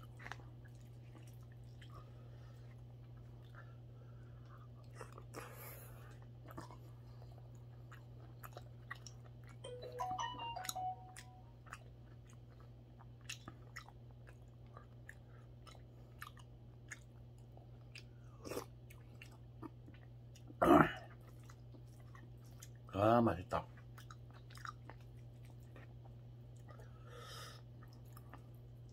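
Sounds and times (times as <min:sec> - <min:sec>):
person chewing: 0:00.0 - 0:09.7, 0:10.4 - 0:22.9, 0:23.7 - 0:28.9.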